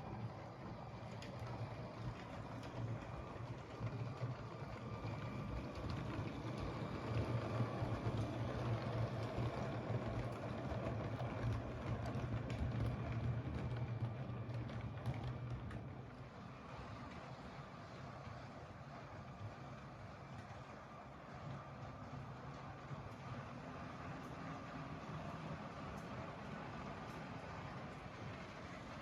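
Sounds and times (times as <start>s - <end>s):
wheels clicking on plastic track: 0.0s - 29.0s.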